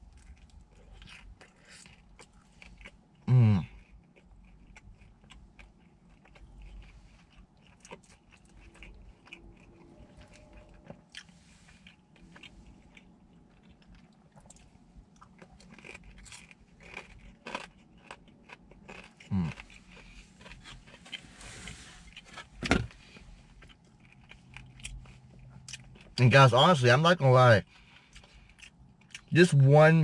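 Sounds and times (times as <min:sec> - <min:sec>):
person chewing crunchy food: 0:00.0 - 0:26.2, 0:27.6 - 0:29.3.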